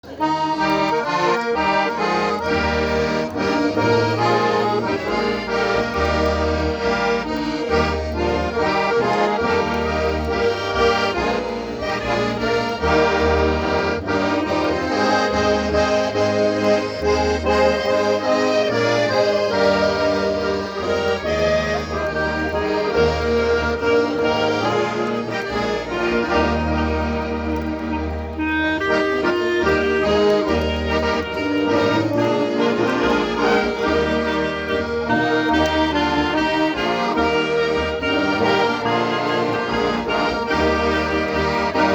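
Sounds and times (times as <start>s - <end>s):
accordion dance tune: 0.0s - 41.9s.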